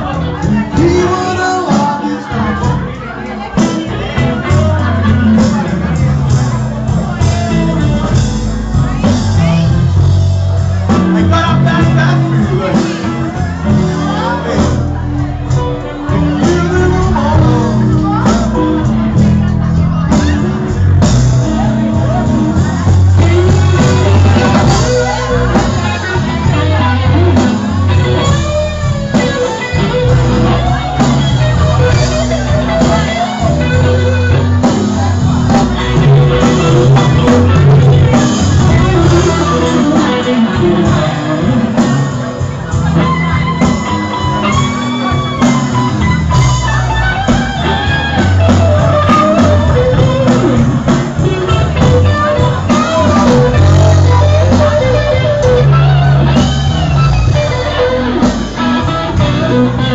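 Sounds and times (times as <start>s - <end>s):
bass and drums: 0.0s - 59.9s
electric guitar lead line: 0.0s - 59.9s.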